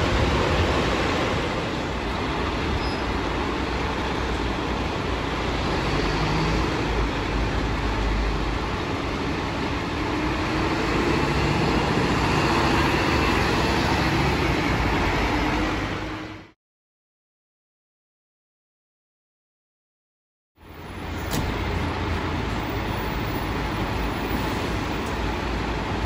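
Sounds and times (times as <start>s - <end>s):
street traffic noise: 0.0s - 16.6s, 20.6s - 26.0s.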